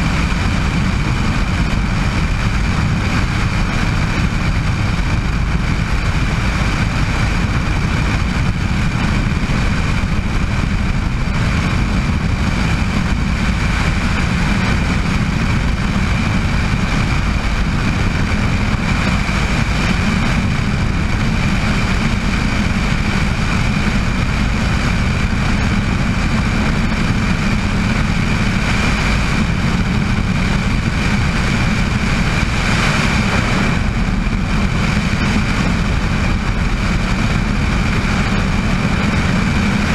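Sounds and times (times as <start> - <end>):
helicopter turbine and rotor running: 0.0 - 39.9.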